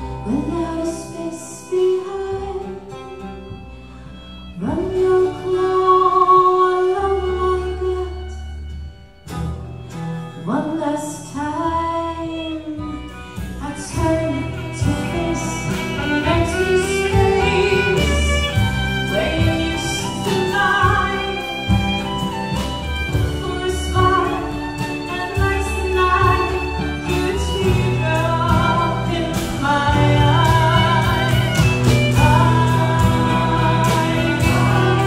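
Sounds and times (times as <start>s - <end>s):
woman singing: 0.0s - 3.6s, 4.5s - 8.6s, 10.4s - 35.0s
folk band playing: 0.0s - 35.0s.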